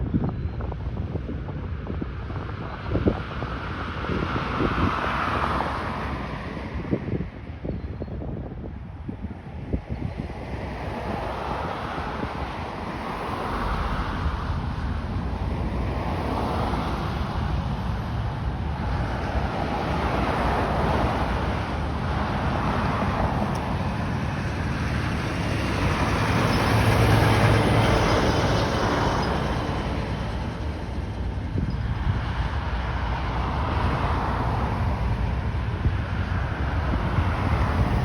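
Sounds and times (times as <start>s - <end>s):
aircraft radial engines droning: 0.0s - 38.0s.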